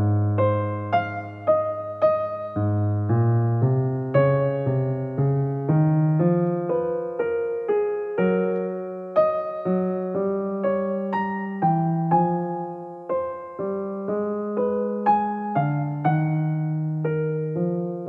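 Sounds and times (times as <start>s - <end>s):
electric piano slow melody: 0.0s - 18.0s.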